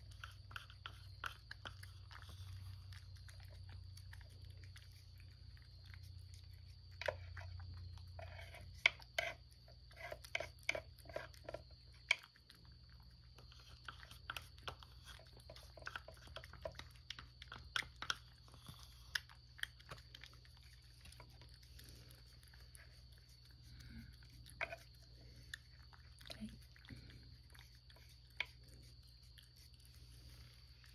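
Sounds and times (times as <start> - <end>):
cat chewing wet food: 0.0 - 30.9.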